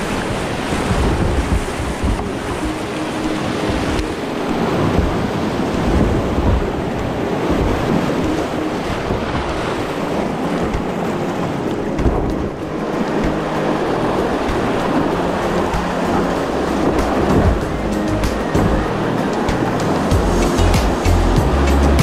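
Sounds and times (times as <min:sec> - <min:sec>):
whitewater rushing over rocks: 0:00.0 - 0:22.0
wind buffeting microphone: 0:00.0 - 0:22.0.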